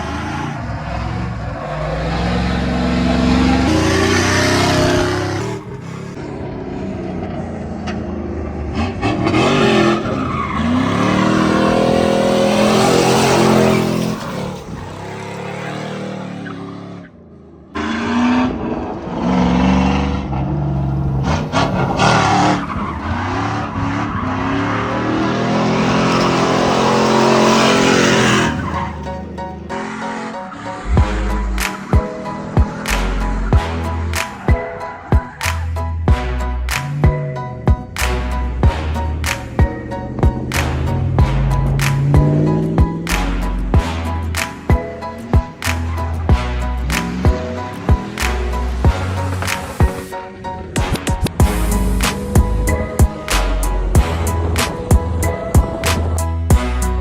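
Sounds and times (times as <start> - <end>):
tires squealing and skidding: 0.0 - 7.6, 8.6 - 17.2, 17.8 - 36.0, 38.0 - 50.2
truck engine revving: 0.0 - 57.0.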